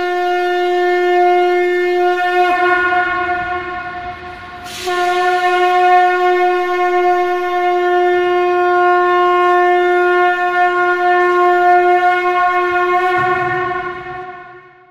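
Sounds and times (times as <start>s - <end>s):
conch shell trumpet long note: 0.0s - 14.9s.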